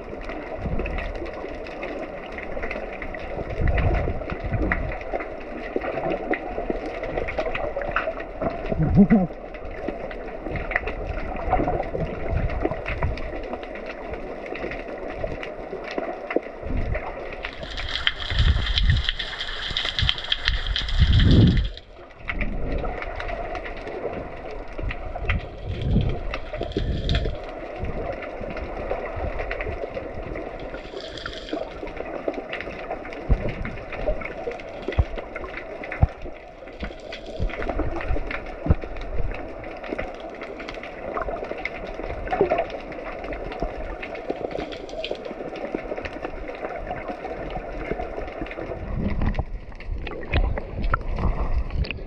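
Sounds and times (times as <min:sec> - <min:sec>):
muffled water sloshing and gurgling: 0:00.0 - 0:52.0.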